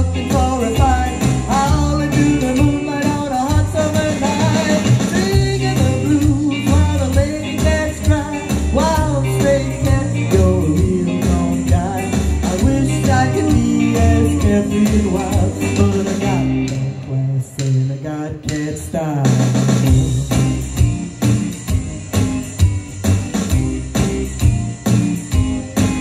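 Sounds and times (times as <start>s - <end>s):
person singing karaoke: 0.0s - 22.7s
backing track with pulsing bass: 0.0s - 26.0s.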